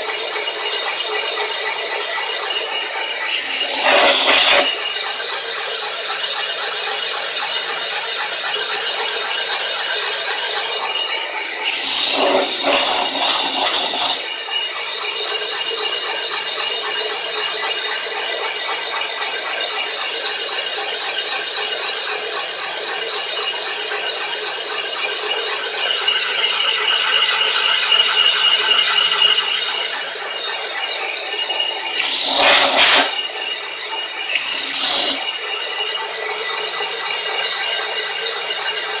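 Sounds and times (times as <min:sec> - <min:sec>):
boring bar grinding rattle: 0:00.0 - 0:39.0.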